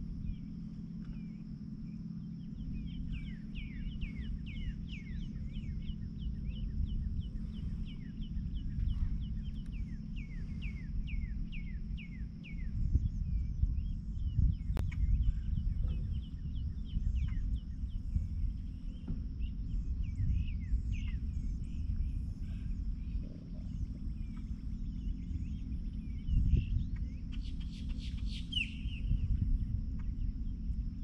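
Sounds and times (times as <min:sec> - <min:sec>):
steady low rumble: 0:00.0 - 0:31.0
songbird chirping: 0:00.3 - 0:31.0.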